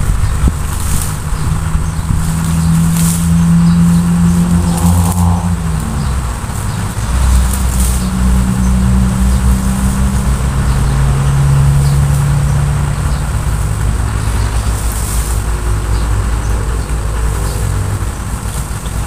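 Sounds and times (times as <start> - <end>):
steady low rumble: 0.0 - 19.0
vehicle engine running: 0.0 - 19.0.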